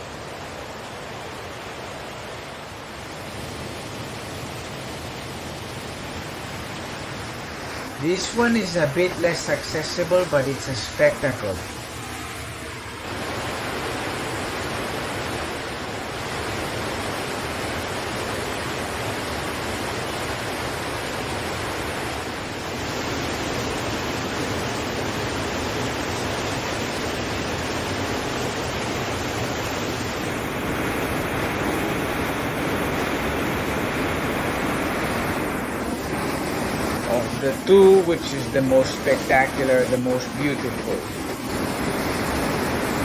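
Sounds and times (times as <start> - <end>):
waterfall rushing: 0.1 - 43.0.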